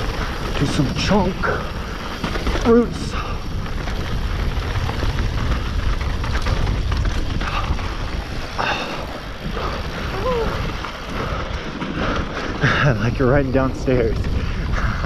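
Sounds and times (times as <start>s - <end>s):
bike clattering over rocks: 0.0s - 14.7s
wind buffeting microphone: 0.0s - 15.0s.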